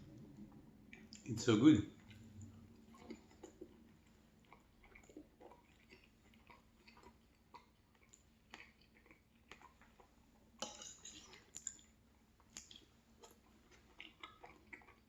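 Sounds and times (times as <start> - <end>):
chewing mouth clicks: 2.0 - 15.0.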